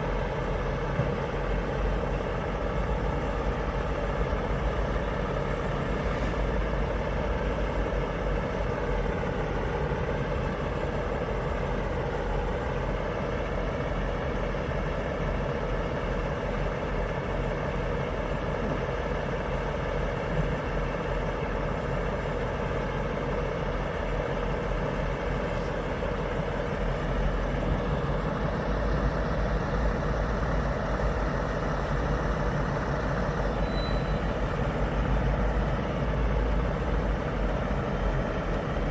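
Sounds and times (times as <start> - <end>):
heavy truck engine idling: 0.0 - 38.9.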